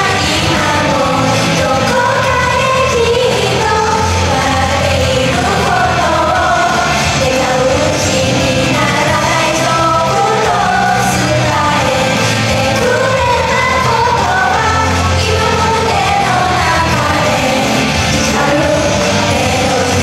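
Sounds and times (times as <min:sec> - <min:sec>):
group singing pop song: 0:00.0 - 0:20.0.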